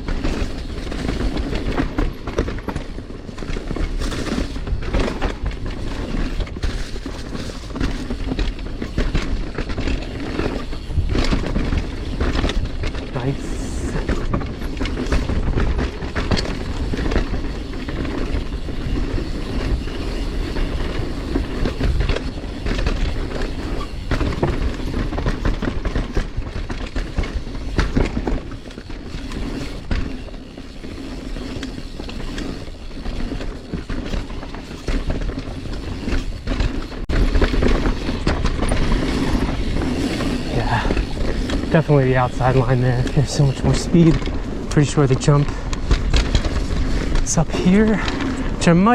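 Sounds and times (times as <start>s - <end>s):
bike rattles and knocks: 0.0s - 48.9s
bike tyres rumbling on dirt: 0.0s - 48.9s.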